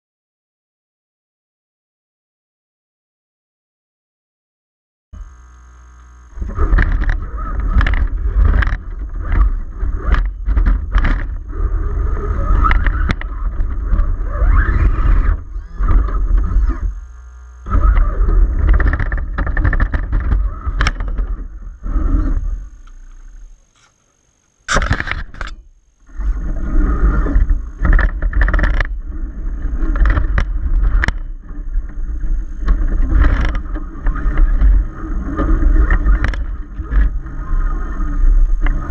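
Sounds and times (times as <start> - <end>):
heavy rumble: 5.2 - 23.7, 24.6 - 38.9
electric motor and gears whining: 5.2 - 38.9.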